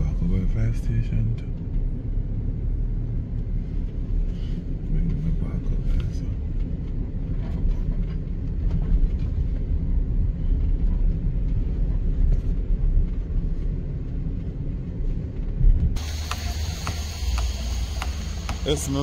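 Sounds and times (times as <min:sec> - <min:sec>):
vehicle driving rumble: 0:00.0 - 0:19.0.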